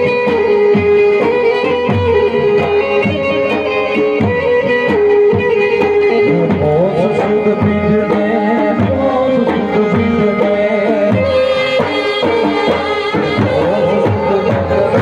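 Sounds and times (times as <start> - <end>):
folk dance music over pa: 0.0 - 15.0
tabla-style drum rhythm: 0.0 - 15.0.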